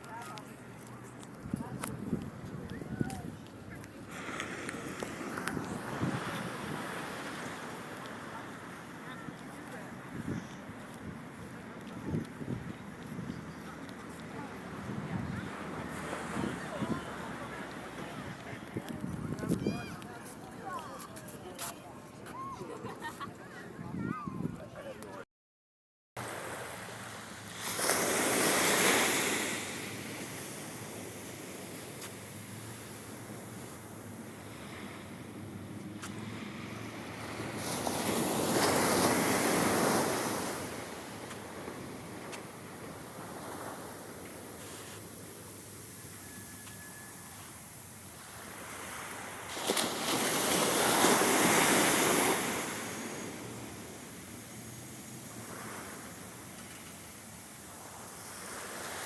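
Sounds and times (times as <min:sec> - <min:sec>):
ocean waves washing ashore: 0:00.0 - 0:24.3, 0:26.2 - 0:59.0.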